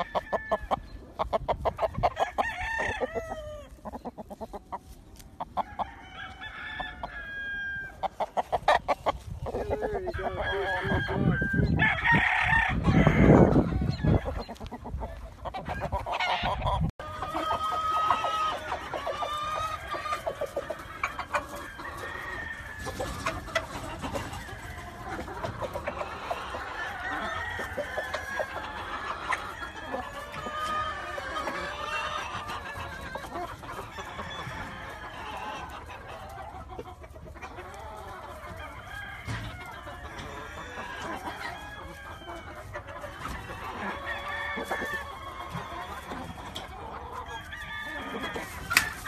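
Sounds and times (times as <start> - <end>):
chickens clucking: 0.0 - 49.0
roosters crowing: 0.0 - 49.0.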